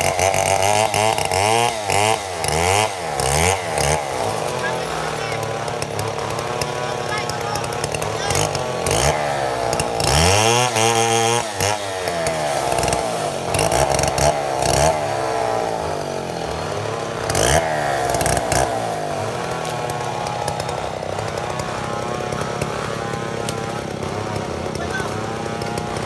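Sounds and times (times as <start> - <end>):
chainsaw milling a log: 0.0 - 26.0.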